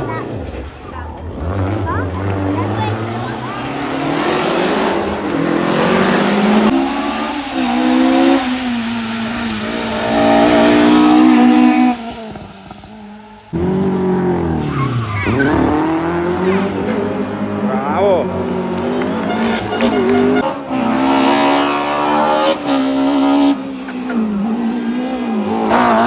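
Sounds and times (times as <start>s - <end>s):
car passing by: 0.0s - 26.0s
rally car engines revving: 0.0s - 26.0s.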